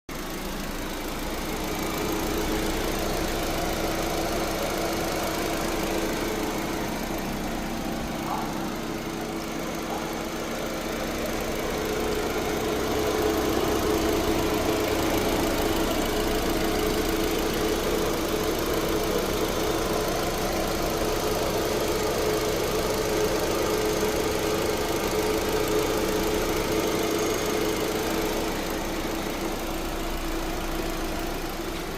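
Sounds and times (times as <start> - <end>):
car engine running rough: 0.1 - 31.9.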